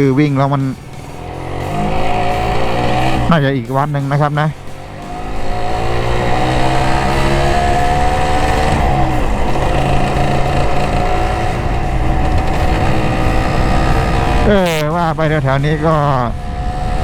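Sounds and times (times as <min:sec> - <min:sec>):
motorcycle engine running: 0:00.0 - 0:17.0
wind noise: 0:00.0 - 0:17.0.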